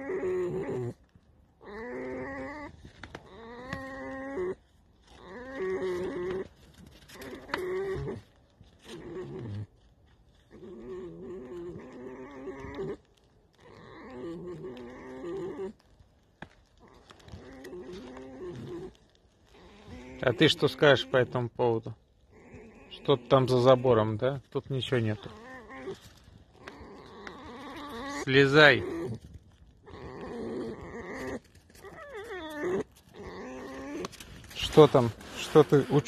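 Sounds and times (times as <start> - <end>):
fox creaky whining calls: 0.0 - 1.0, 1.6 - 9.7, 10.5 - 16.0, 16.7 - 21.5, 22.2 - 36.0.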